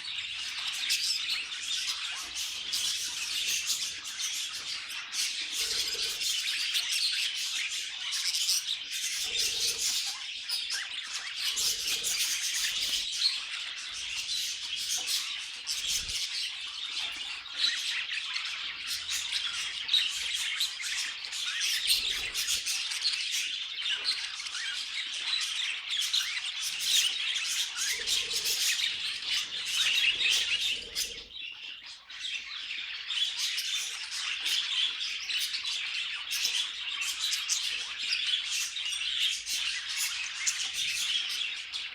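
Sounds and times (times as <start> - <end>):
budgerigars chattering: 0.0 - 41.9.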